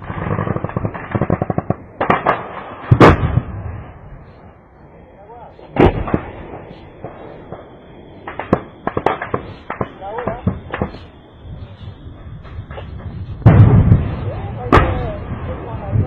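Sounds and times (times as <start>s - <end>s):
heavy blasts: 0.0s - 16.0s.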